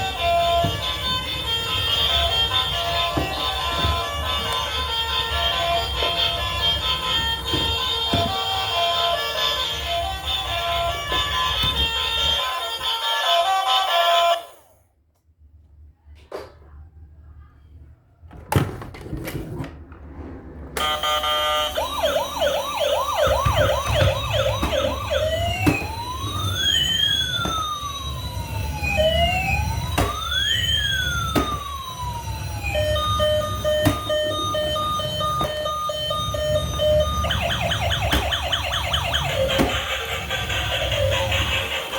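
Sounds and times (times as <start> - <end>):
toy siren: 0.0 - 14.7, 20.8 - 41.9.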